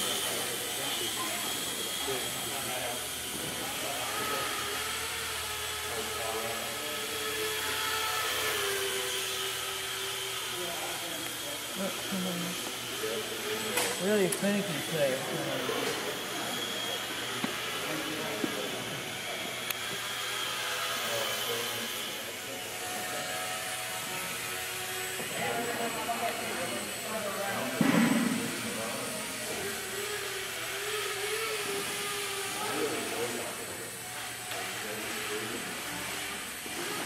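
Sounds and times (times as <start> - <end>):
quadcopter motors whirring: 0.0 - 37.0.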